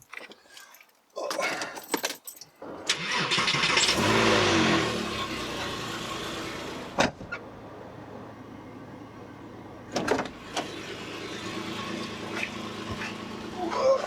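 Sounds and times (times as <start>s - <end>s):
car engine starting and idling: 2.6s - 14.0s.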